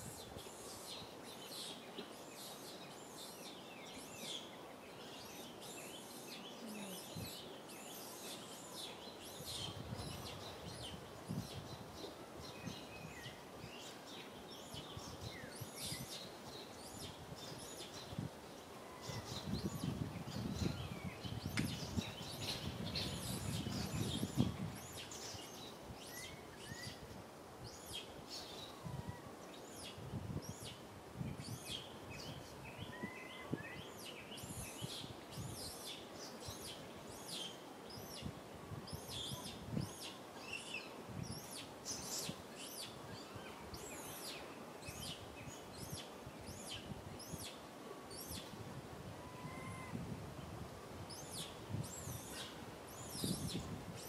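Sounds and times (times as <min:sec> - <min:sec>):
small birds chirping: 0:00.0 - 0:48.6, 0:51.1 - 0:54.0.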